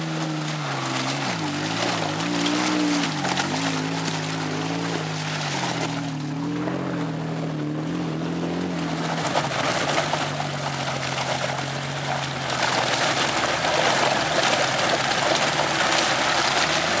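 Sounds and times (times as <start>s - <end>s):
diesel engine under load: 0.0s - 17.0s
tyres churning and splashing mud: 0.0s - 17.0s.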